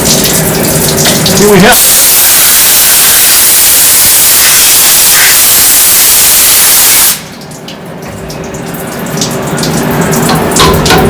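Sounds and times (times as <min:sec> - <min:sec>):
machine hum: 0:00.2 - 0:11.0.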